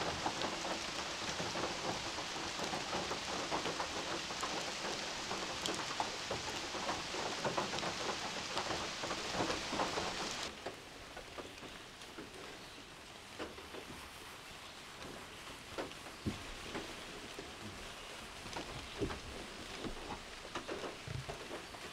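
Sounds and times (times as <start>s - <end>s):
heavy rain on a tin roof: 0.0s - 21.9s.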